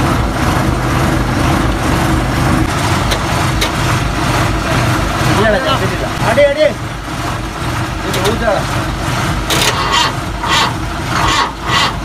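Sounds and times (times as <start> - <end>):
diesel bus engine idling: 0.0 - 12.0.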